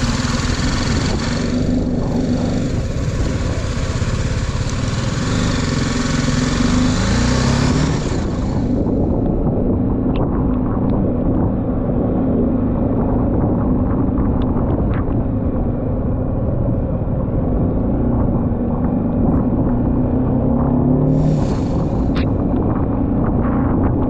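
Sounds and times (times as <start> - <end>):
motorcycle engine running: 0.0 - 24.0
wind rush on microphone: 0.0 - 24.0.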